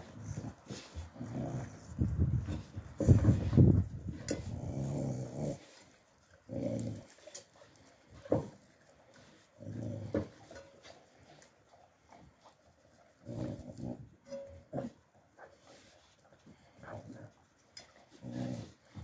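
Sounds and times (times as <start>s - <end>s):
puppy growling low: 0.0s - 11.4s, 12.1s - 15.0s, 16.5s - 19.0s.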